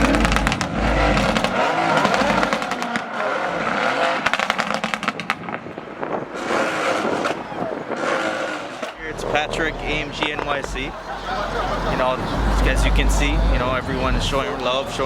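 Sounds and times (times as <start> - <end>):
car engine revving: 0.0 - 5.6, 6.3 - 15.0
sharp engine crackles: 0.0 - 15.0.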